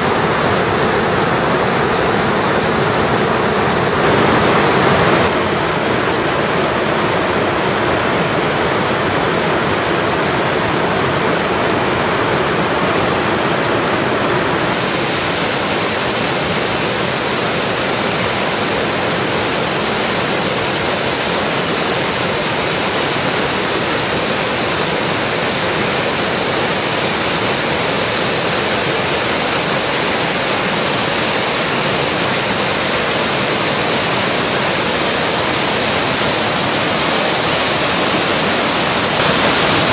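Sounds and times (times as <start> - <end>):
waterfall crashing onto rocks: 0.0 - 39.9.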